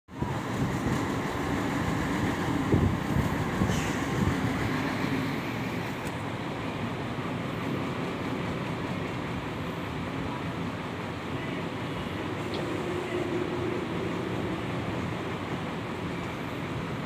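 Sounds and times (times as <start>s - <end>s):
diesel engines rumbling: 0.2s - 17.0s.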